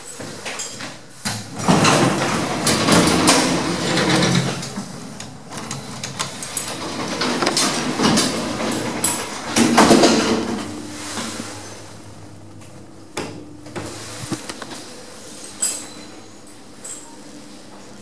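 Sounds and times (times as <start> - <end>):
lift doors sliding: 0.3 - 16.7.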